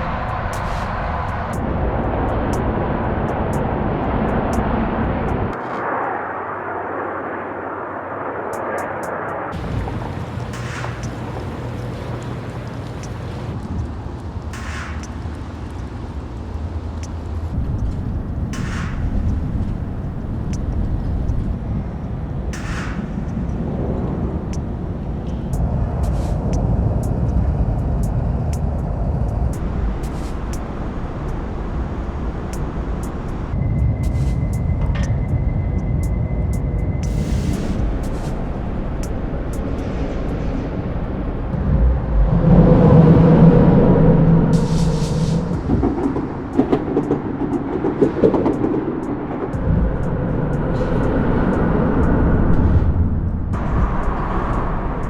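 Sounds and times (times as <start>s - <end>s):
sharp ticks and clanks: 0.0s - 6.1s, 8.5s - 41.6s, 44.6s - 54.8s
distant city traffic rumble: 0.0s - 55.0s.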